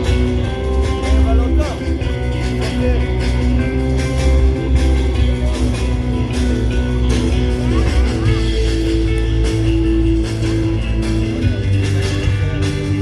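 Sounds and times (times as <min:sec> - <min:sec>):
guitar rock music: 0:00.0 - 0:13.0.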